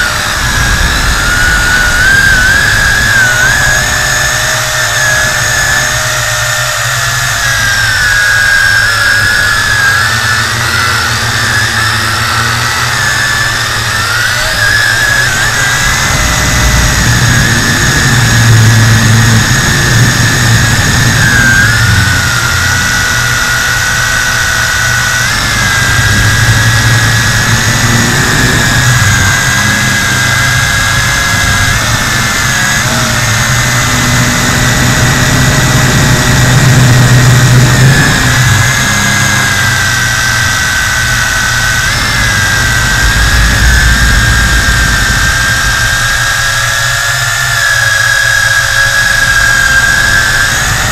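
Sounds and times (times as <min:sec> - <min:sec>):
low rumble: 0:00.0 - 0:08.2, 0:09.4 - 0:50.9
drone propellers whining: 0:00.0 - 0:50.9.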